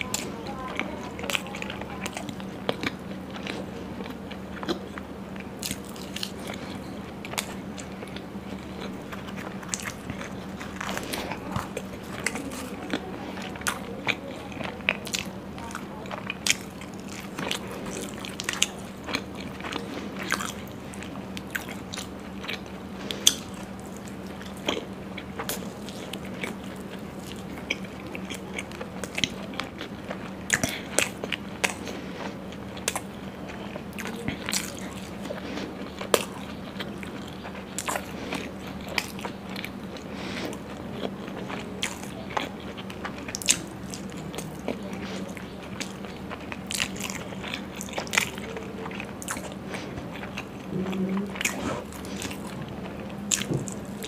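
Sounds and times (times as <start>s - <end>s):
chewing with wet mouth clicks: 0.0s - 54.0s
steady low hum: 0.0s - 54.0s.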